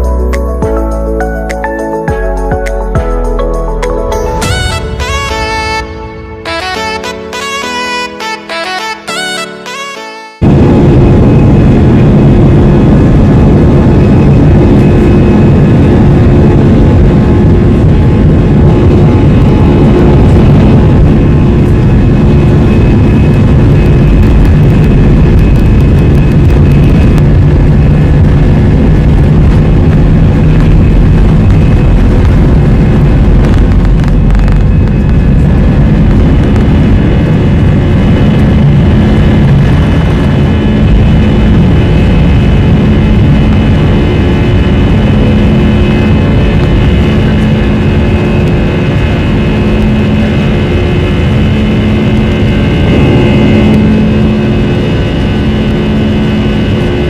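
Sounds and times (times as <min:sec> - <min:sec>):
jet engines heard from cabin: 0:00.0 - 0:57.0.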